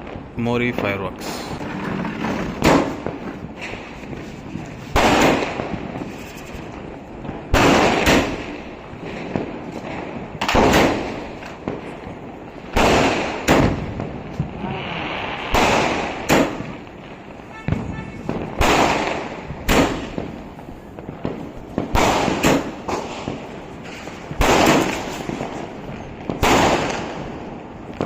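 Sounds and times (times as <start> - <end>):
firework cake bangs: 2.4 - 28.0.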